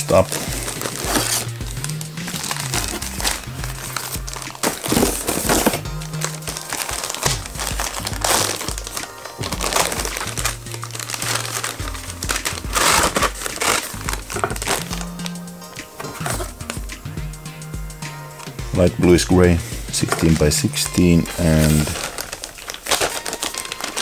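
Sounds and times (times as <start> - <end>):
plastic bags crinkling: 0.0 - 16.8, 19.9 - 24.0
background music with bass line: 0.0 - 22.2.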